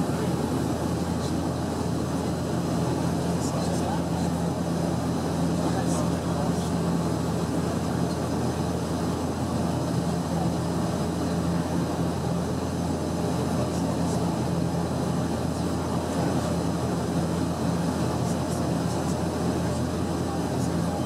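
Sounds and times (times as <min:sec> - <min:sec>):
propeller engines droning: 0:00.0 - 0:21.0.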